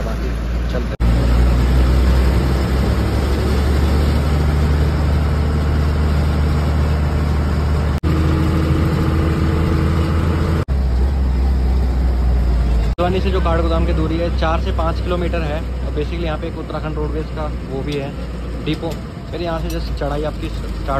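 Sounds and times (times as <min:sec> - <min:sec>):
bus diesel engine drone: 0:00.0 - 0:20.9
road noise: 0:00.0 - 0:20.9.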